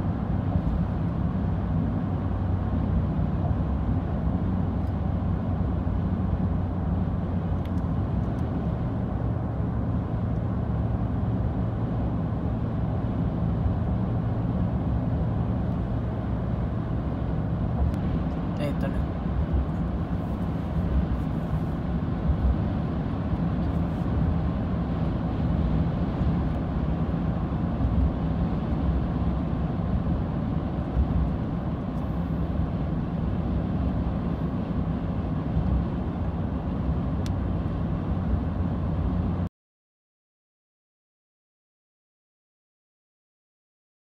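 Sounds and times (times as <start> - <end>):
car interior road rumble: 0.0 - 39.5.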